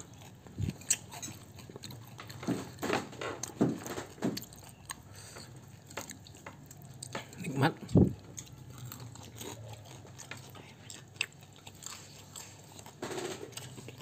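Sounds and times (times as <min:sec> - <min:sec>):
person chewing and biting food: 0:00.0 - 0:14.0.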